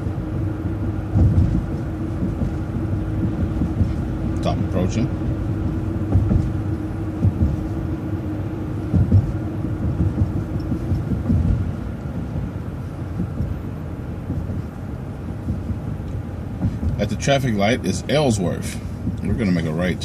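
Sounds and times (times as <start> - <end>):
bus body thumps and rattles: 0.0 - 20.0
bus engine and tyres rumbling: 0.0 - 20.0
steady hum: 0.0 - 20.0.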